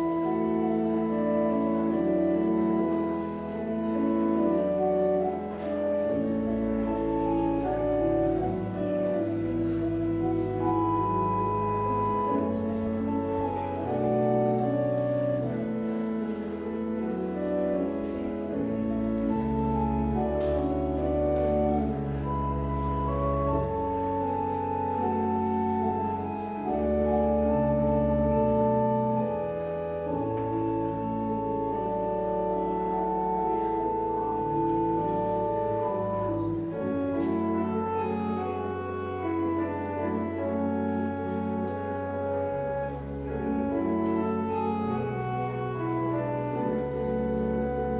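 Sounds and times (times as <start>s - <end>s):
organ playing slow chords: 0.0s - 47.9s.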